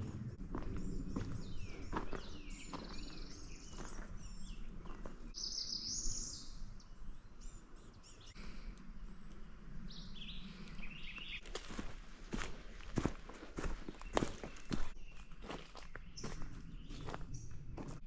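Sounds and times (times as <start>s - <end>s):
birds singing and chirping: 0.2s - 8.8s, 9.8s - 18.0s.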